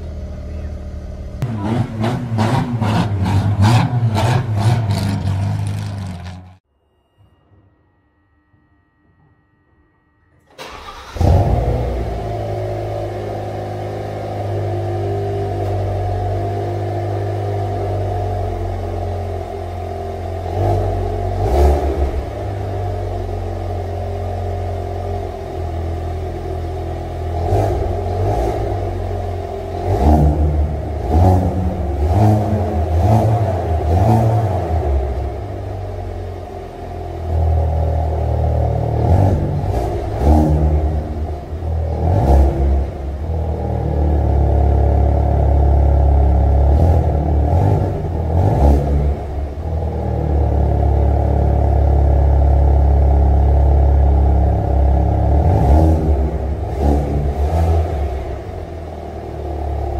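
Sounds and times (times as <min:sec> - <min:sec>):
car engine revving: 0:00.0 - 0:06.6, 0:10.5 - 0:59.9.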